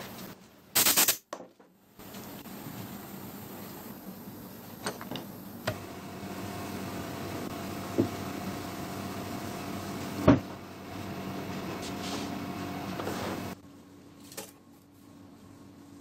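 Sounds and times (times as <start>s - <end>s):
steady hum: 1.9s - 16.0s.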